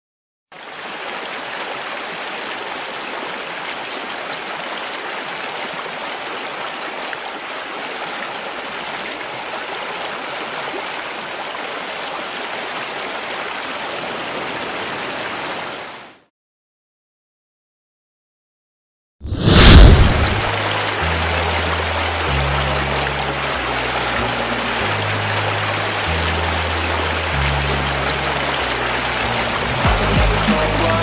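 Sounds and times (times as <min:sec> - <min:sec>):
creek water rushing: 0:00.5 - 0:16.2, 0:19.6 - 0:31.0.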